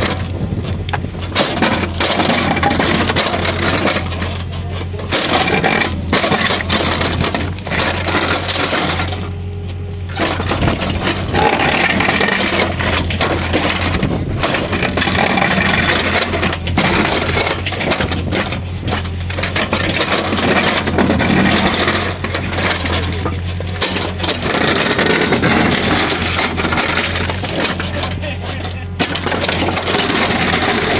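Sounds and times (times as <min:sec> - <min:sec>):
diesel engine under load: 0:00.0 - 0:30.9
ground cracking and crunching: 0:00.0 - 0:30.9.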